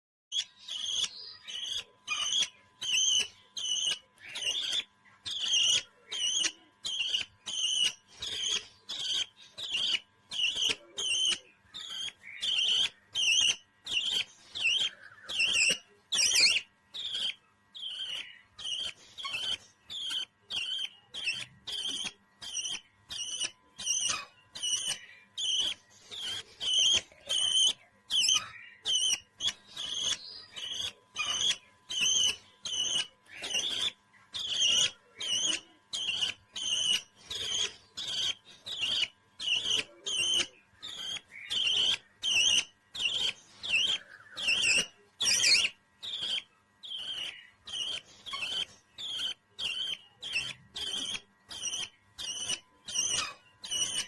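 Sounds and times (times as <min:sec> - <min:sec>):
parrot chirping: 0:00.3 - 0:54.0.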